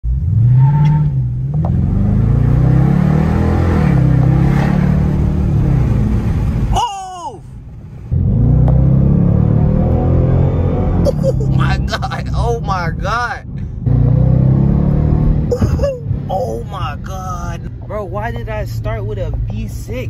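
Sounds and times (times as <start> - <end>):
car engine accelerating: 0.0 - 6.8, 7.6 - 18.1.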